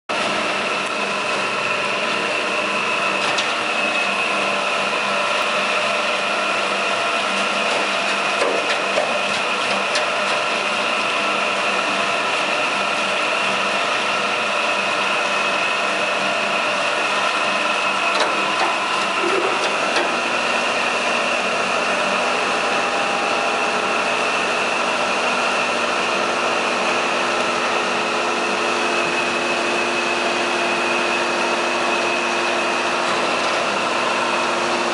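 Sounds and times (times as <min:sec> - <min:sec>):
high machine whine: 0:00.1 - 0:34.9
electric motors humming: 0:00.2 - 0:34.9.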